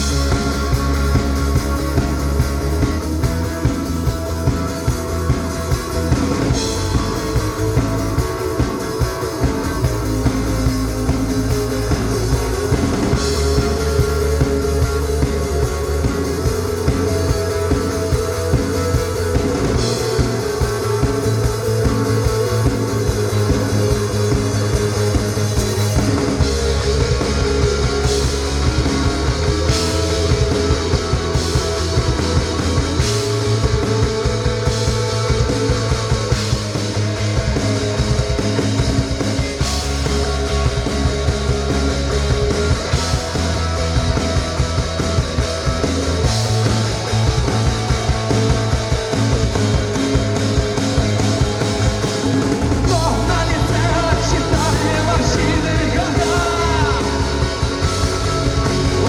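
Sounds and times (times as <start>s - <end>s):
drum kit beat: 0.0s - 59.0s
electric guitar: 0.0s - 59.0s
rock band playing live: 0.0s - 59.0s.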